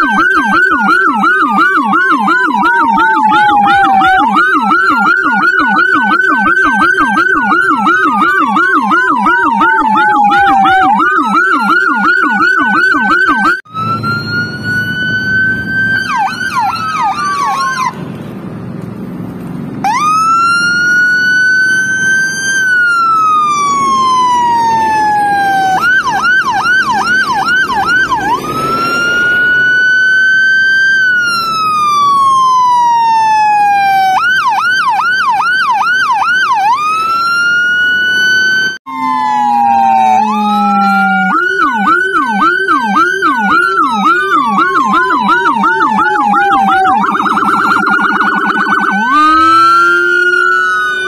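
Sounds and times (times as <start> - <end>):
electronic siren wailing and yelping: 0.0 - 18.0, 19.8 - 51.0.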